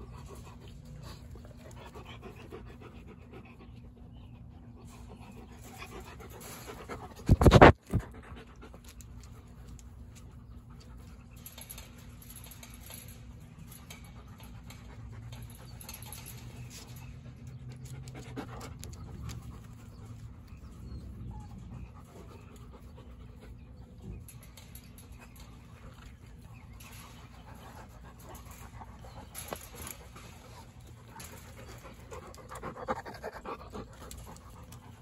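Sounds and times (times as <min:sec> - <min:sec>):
dogs panting: 0:00.0 - 0:35.0.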